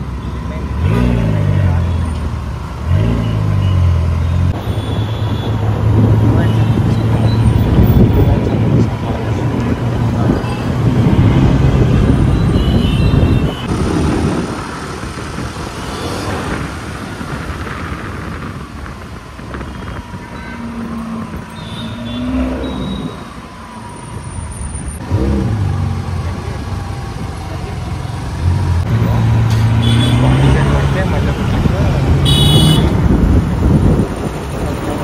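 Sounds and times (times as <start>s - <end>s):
car engine driving: 0.0s - 35.0s
traffic: 0.0s - 35.0s.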